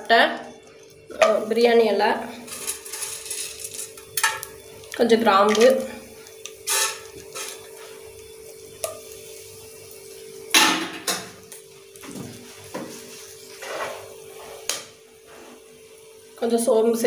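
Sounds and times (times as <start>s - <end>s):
spices frying in hot oil: 0.0s - 17.0s.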